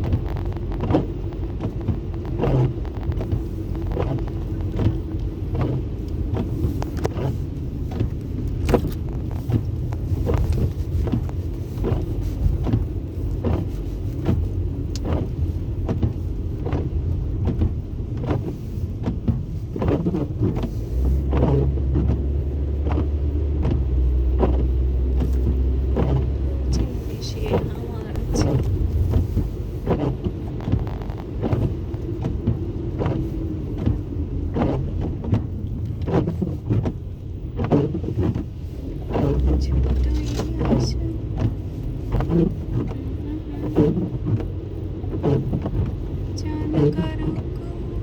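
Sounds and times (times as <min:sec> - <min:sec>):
car interior rumble: 0:00.0 - 0:48.0.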